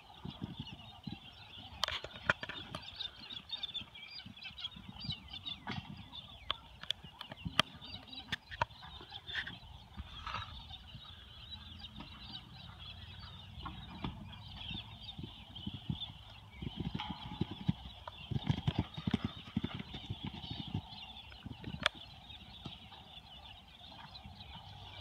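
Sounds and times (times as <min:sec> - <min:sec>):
birds chattering and squawking: 0:00.0 - 0:25.0
wind rumbling on microphone: 0:00.0 - 0:25.0.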